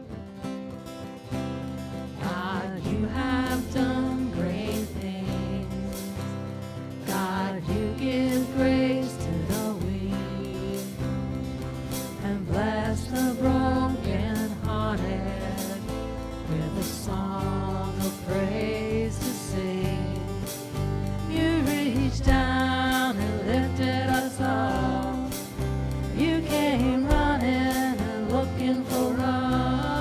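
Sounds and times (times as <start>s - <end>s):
band playing worship song: 2.2s - 6.4s, 7.0s - 30.0s.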